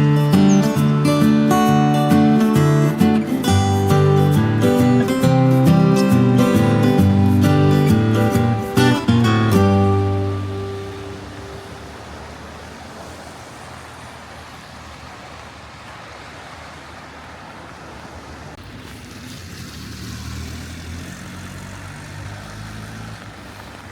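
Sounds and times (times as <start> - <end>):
outdoor background noise: 0.0 - 23.9.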